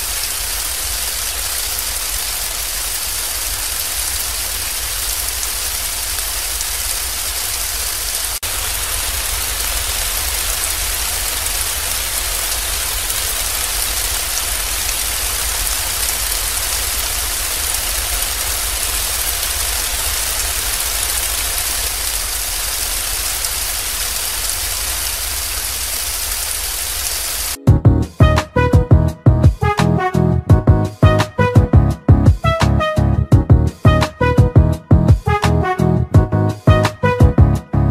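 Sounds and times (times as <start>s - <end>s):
steady rain falling: 0.0s - 27.6s, 30.9s - 35.8s.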